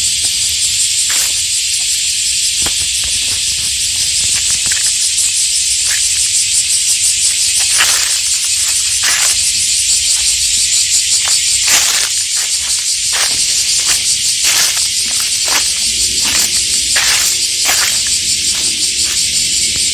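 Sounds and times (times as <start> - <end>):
cicadas droning: 0.0 - 19.9.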